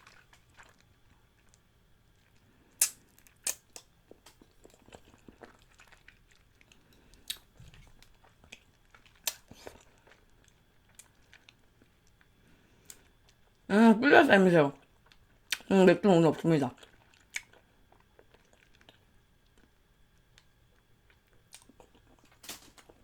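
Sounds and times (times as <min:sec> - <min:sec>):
wet chewing smacks and clicks: 0:00.0 - 0:13.4, 0:16.8 - 0:22.4.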